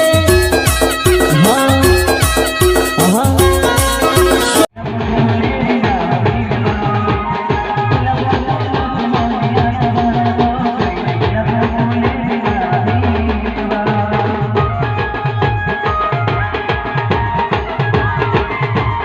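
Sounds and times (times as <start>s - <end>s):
fast dense drumming: 0.0s - 19.0s
held melody line: 0.0s - 19.0s.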